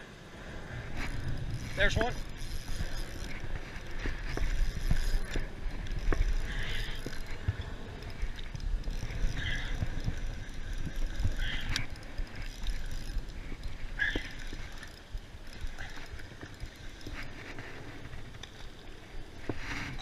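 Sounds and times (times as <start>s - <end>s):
fishing reel clicking: 0.9s - 20.0s.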